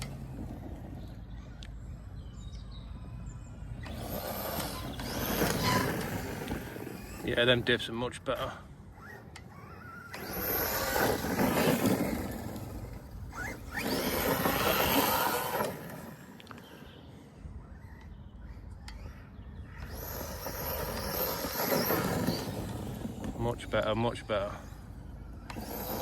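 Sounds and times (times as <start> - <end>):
rc truck motor and tyres: 0.0 - 26.0.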